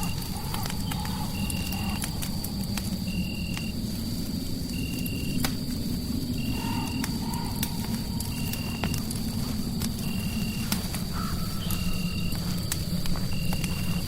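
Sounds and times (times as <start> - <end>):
fireplace crackling and popping: 0.0 - 14.0.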